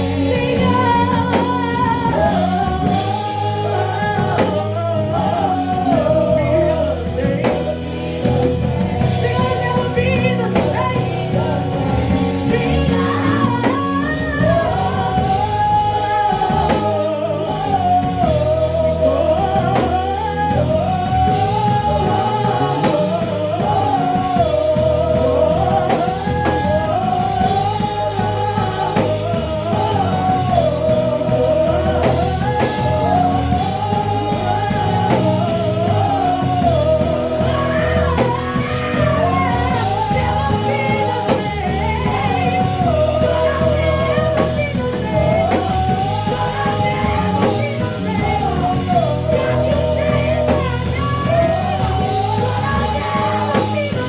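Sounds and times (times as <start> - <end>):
worship band playing: 0.0 - 54.0.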